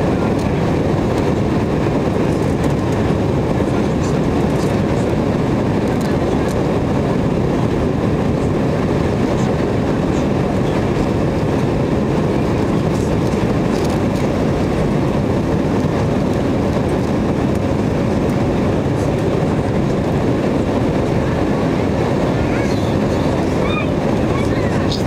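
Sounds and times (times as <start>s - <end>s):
airflow over fuselage: 0.0s - 25.0s
airliner engine rumble: 0.0s - 25.0s.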